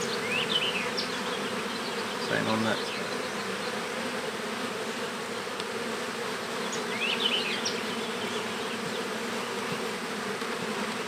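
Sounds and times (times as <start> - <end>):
honeybee colony humming: 0.0 - 11.0.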